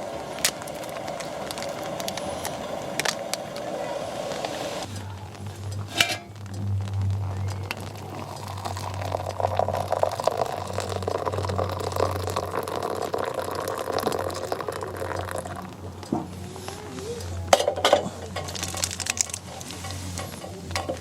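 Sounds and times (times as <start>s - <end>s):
water pouring into a pot: 0.0s - 21.0s.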